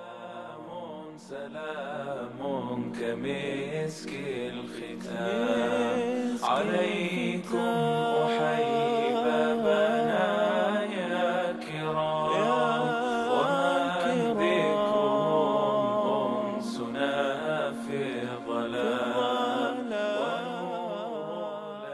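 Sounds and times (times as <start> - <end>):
low vocal drone: 0.0 - 21.9
person singing ornamented melody: 0.0 - 21.9.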